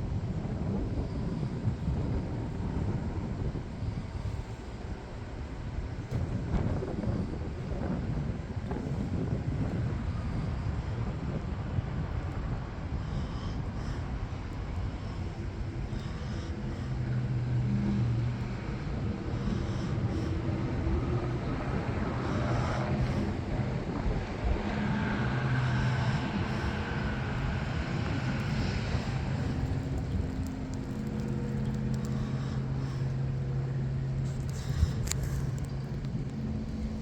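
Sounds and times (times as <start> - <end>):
low engine hum: 0.0 - 37.0
outdoor rumble: 0.0 - 37.0.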